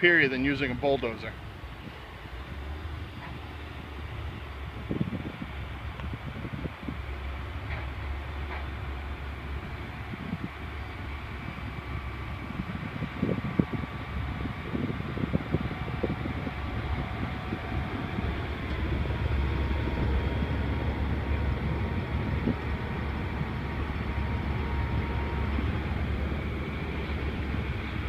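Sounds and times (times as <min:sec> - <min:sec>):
deep rumble: 0:00.0 - 0:28.0
tractor engine under load: 0:00.0 - 0:28.0.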